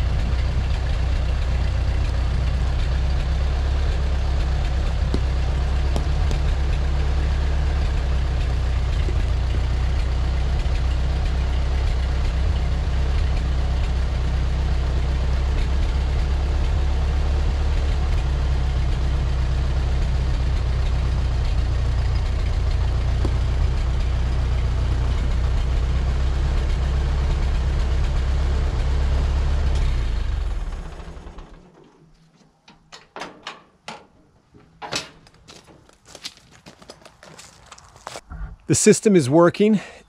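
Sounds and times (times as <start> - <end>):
tractor engine running: 0.0 - 39.8.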